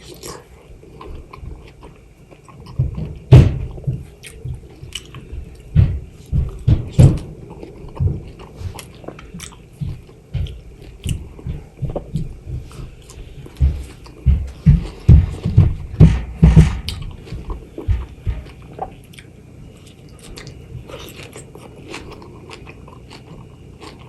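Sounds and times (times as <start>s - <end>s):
wet chewing and biting: 0.0s - 15.4s, 16.9s - 24.0s.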